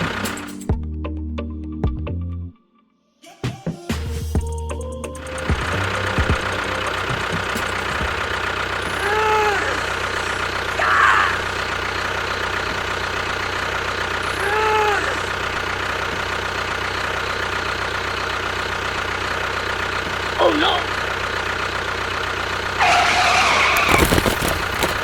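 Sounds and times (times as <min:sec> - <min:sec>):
small engine running: 0:00.0 - 0:00.6, 0:04.5 - 0:25.0.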